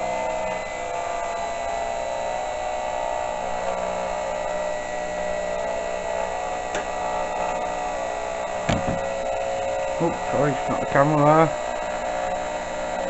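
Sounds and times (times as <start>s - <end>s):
milling machine cutting steel: 0.0s - 13.0s.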